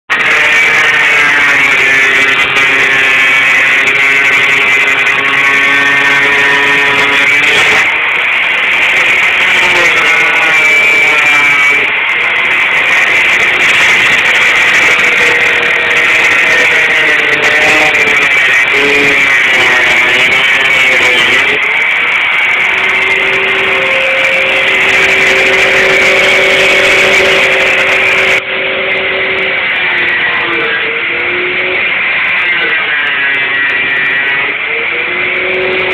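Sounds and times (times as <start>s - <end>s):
angle grinder cutting sheet metal: 0.1s - 35.9s.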